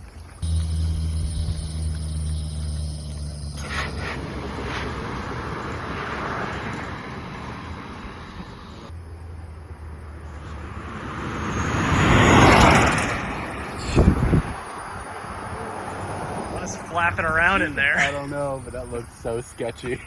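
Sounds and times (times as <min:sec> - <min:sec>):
car driving past at speed: 0:00.4 - 0:18.2.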